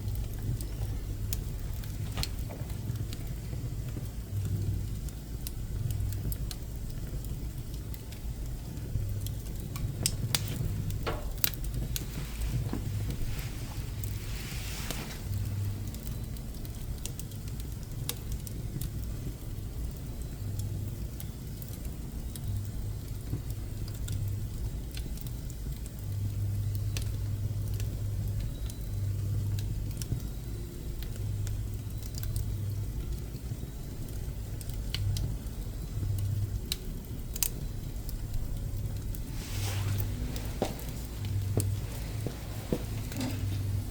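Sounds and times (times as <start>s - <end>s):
fire low rumble: 0.0s - 43.9s
wood fire crackling: 0.0s - 43.9s.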